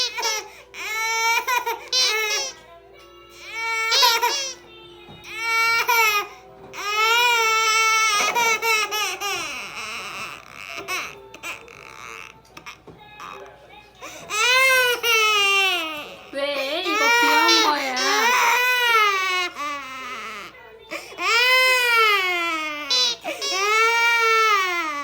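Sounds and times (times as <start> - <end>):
baby crying: 0.0 - 2.6, 3.3 - 4.6, 5.2 - 25.0.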